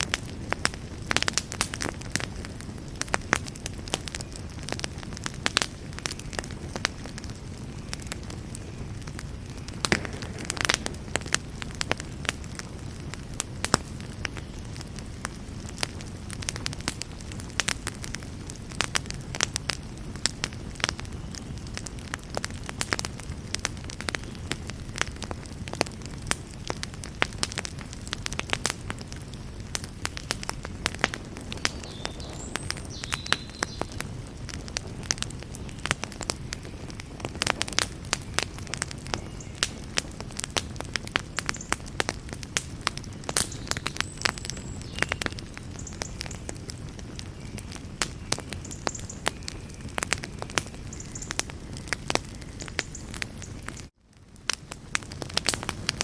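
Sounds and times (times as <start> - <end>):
campfire crackles and pops: 0.0 - 56.0
campfire flame rumbling: 0.0 - 56.0.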